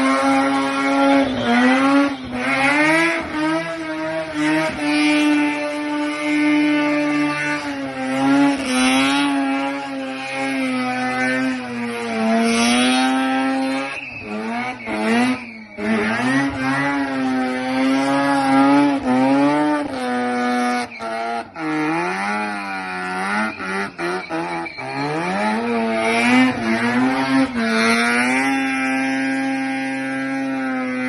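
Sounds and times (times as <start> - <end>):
car engine revving high: 0.0 - 31.0.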